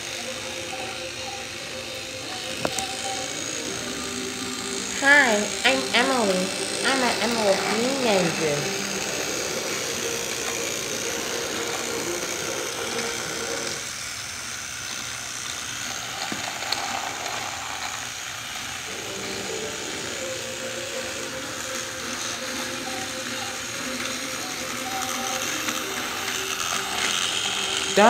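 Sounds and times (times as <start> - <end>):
toy train motors whirring: 0.0 - 28.0.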